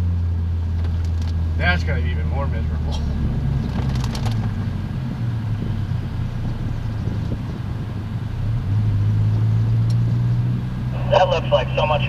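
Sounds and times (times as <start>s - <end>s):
car engine hum: 0.0s - 12.0s
tyres on wet road: 0.0s - 12.0s.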